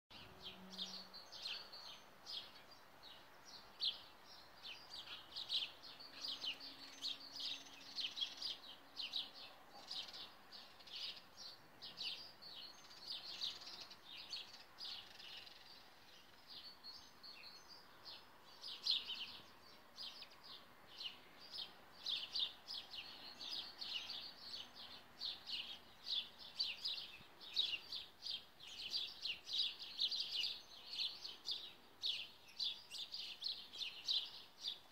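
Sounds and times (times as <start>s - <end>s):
small songbirds chirping: 0.1s - 34.9s.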